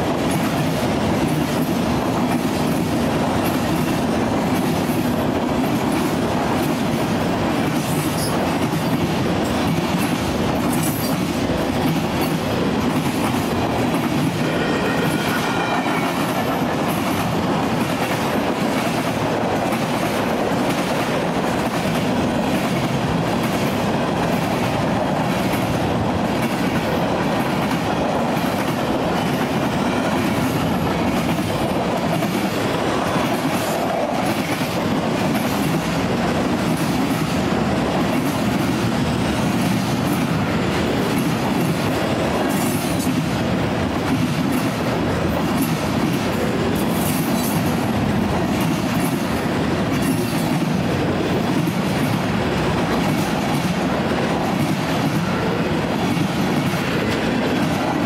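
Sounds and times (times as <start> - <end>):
train wheels clickety-clack on rails: 0.0 - 58.0.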